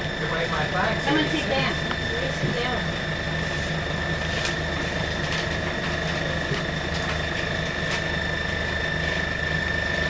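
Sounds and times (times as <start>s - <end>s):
diesel rail motor engine running: 0.0s - 10.0s
high-pitched whine: 0.0s - 10.0s.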